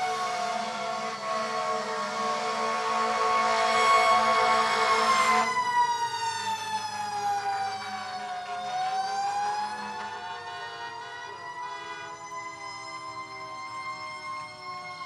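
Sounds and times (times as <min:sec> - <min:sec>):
pulsing siren tone: 0:00.0 - 0:15.0
vehicle siren wailing: 0:00.0 - 0:15.0.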